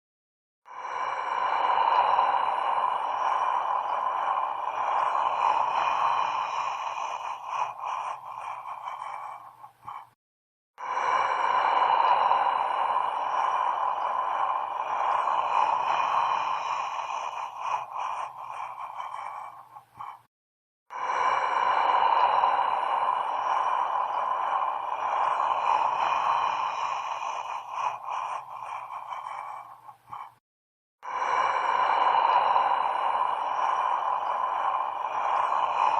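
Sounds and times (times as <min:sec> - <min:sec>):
hissing drone: 0:00.7 - 0:10.0, 0:10.8 - 0:20.2, 0:21.0 - 0:30.3, 0:31.1 - 0:35.9.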